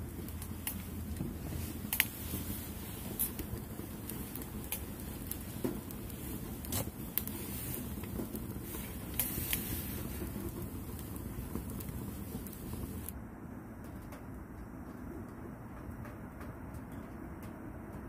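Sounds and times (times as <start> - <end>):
low rumble of stove: 0.0 - 18.0
wood fire crackling: 0.0 - 18.0.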